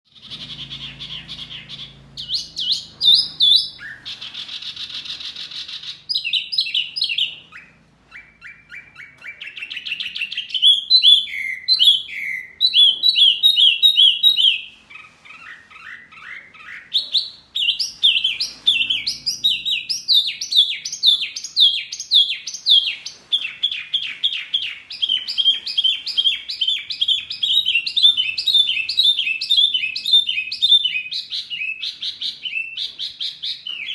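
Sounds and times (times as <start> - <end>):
songbird chirps whistles and trills: 0.1 - 33.9.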